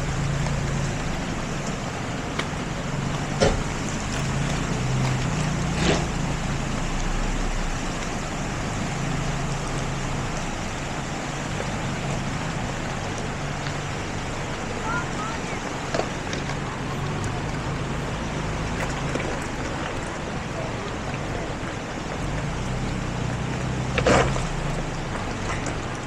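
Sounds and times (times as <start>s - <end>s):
waterfall over rocks: 0.0s - 26.0s.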